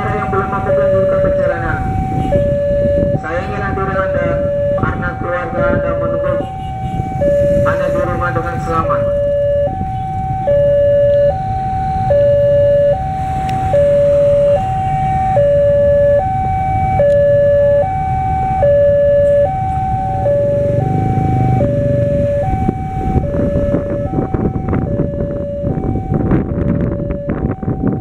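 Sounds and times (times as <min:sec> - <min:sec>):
low traffic rumble: 0:00.0 - 0:28.0
two-tone crossing alarm: 0:00.0 - 0:28.0.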